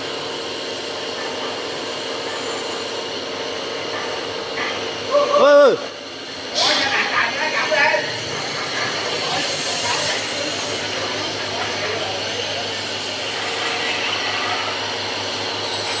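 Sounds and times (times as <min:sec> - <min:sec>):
hiss: 0:00.0 - 0:16.0
low mechanical hum: 0:00.0 - 0:16.0.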